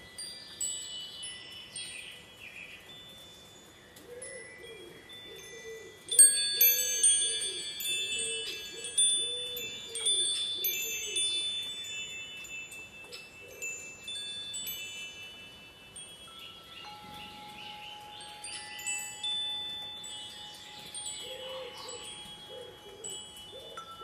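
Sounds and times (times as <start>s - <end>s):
wind chimes ringing: 0.0s - 24.0s.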